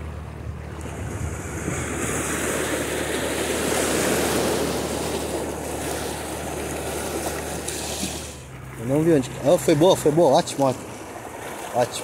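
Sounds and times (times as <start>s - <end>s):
waves washing over rocks: 0.8s - 12.0s.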